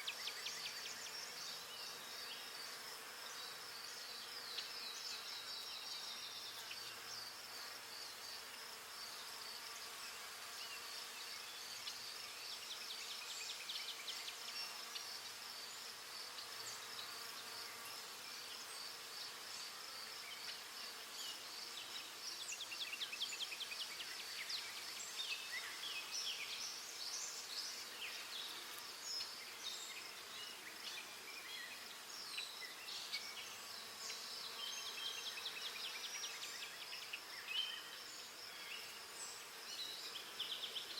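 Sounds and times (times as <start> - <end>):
faint hiss: 0.0 - 40.9.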